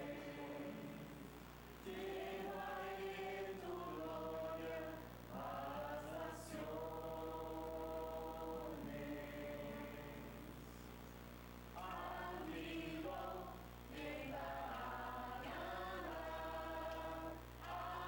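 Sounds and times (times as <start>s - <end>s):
choir singing long notes: 0.0s - 10.6s, 11.8s - 18.0s
faint low hum: 0.0s - 18.0s.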